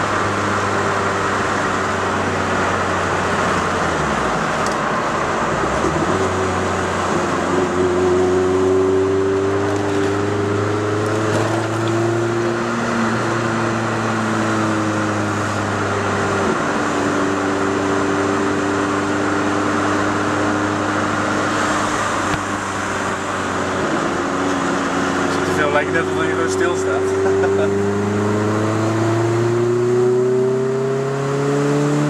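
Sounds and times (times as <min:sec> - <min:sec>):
car engine droning: 0:00.0 - 0:32.0
road and tyre noise: 0:00.0 - 0:32.0.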